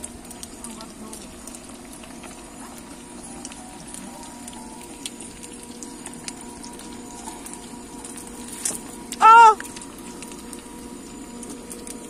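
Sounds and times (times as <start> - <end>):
sausages sizzling in oil: 0.0 - 12.0.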